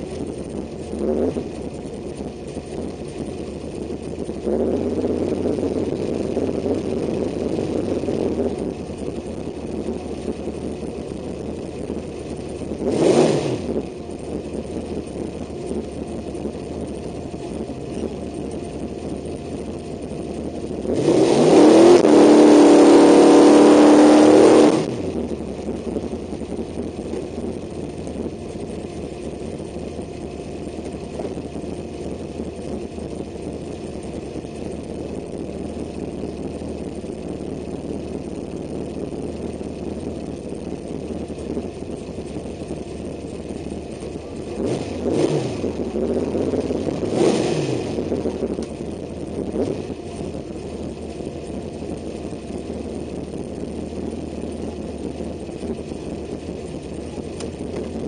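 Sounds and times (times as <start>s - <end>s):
truck engine idling and revving: 0.0s - 58.0s.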